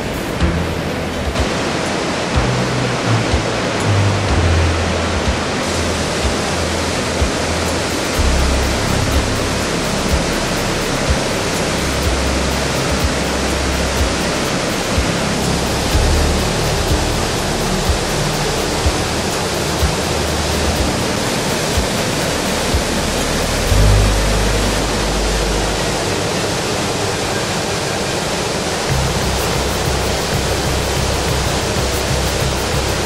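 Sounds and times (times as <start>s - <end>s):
background music with bass: 0.0s - 33.0s
waterfall rushing over rocks: 0.0s - 33.0s.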